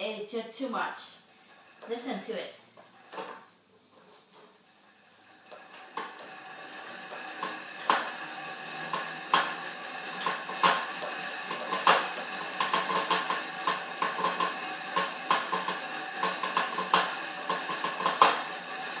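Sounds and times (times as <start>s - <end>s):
exercise bike clicking and clanking: 1.3s - 2.0s, 2.8s - 19.0s.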